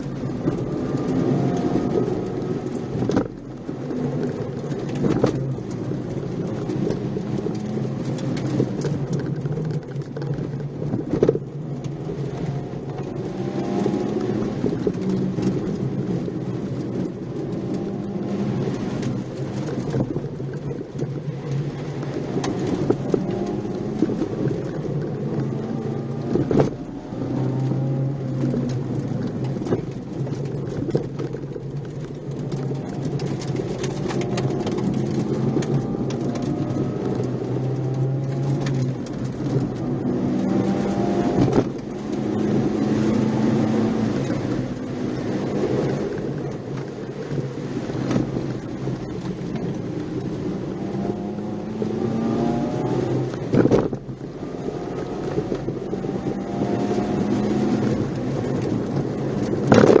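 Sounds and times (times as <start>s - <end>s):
car engine revving: 0.0s - 60.0s
road noise rumble: 0.0s - 60.0s.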